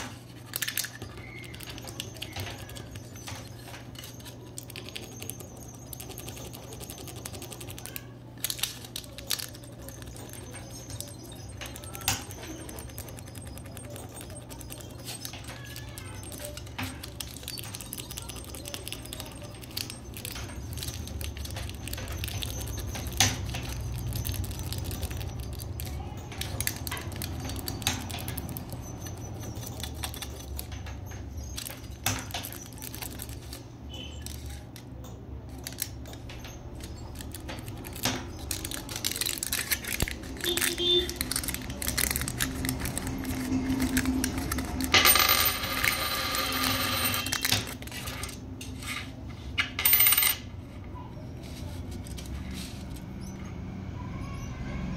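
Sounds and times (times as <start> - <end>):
aluminium foil crinkling: 0.0 - 30.8, 31.6 - 34.8, 35.5 - 44.9, 51.4 - 53.1.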